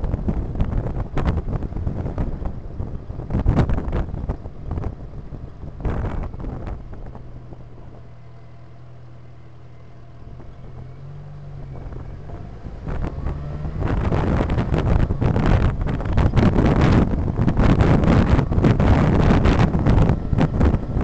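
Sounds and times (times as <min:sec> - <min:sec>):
wind buffeting microphone: 0:00.0 - 0:08.2, 0:10.2 - 0:21.0
car engine humming: 0:00.0 - 0:21.0.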